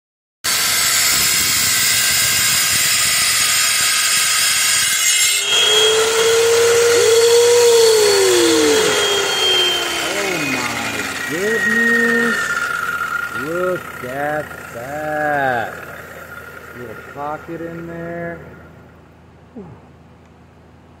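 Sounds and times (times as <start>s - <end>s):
rock saw cutting stone: 0.5s - 18.7s.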